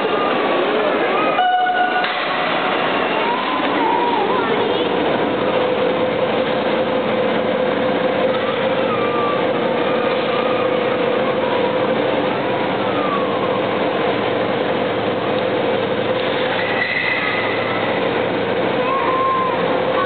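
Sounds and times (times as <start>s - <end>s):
crane mechanical hum: 0.0s - 20.0s.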